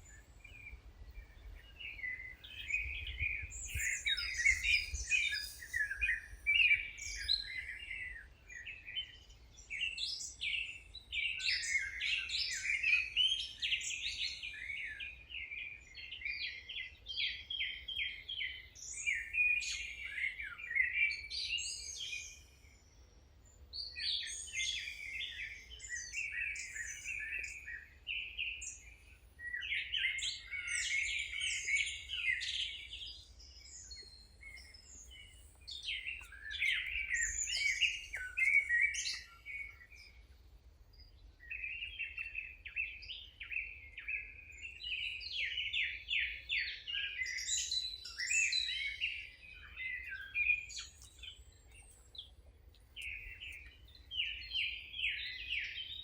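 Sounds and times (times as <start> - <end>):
songbirds twittering: 0.0 - 56.0.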